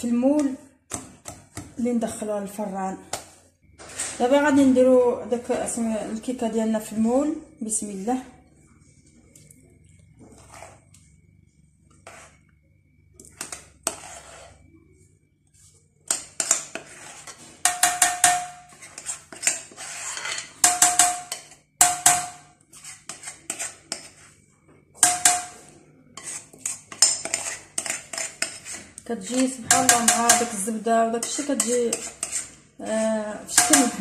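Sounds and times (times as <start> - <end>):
spoon scraping mixing bowl: 0.1 - 34.0.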